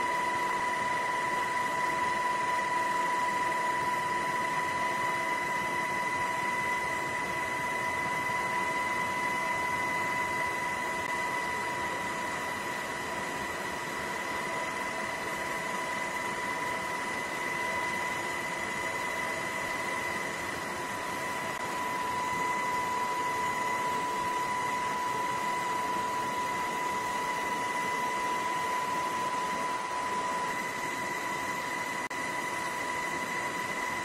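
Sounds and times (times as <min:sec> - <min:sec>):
high whine: 0:00.0 - 0:34.0.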